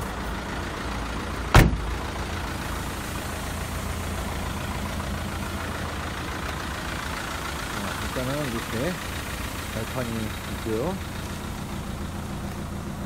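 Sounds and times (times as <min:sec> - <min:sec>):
minibus engine idling: 0:00.0 - 0:13.0.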